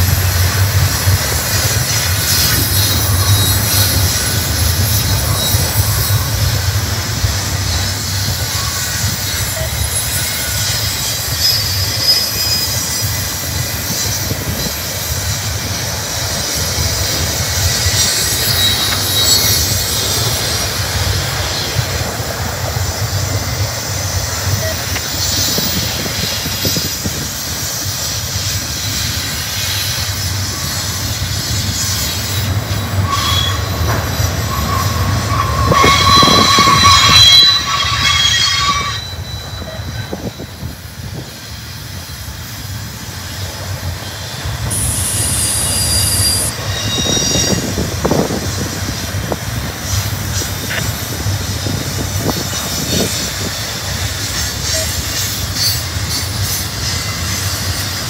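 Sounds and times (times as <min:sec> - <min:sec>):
high wheel squeals: 0:00.0 - 0:58.0
steel wheels rumbling on rail: 0:00.0 - 0:58.0.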